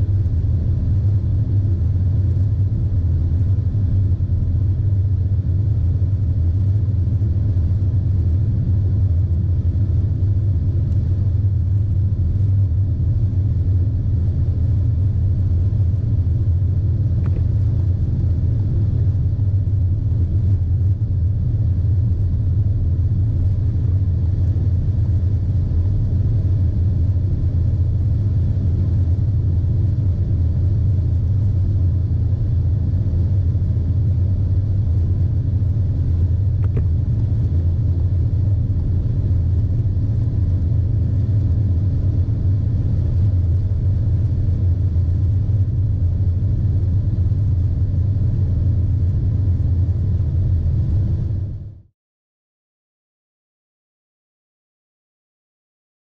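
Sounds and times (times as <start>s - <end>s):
car engine droning in cabin: 0.0s - 51.6s.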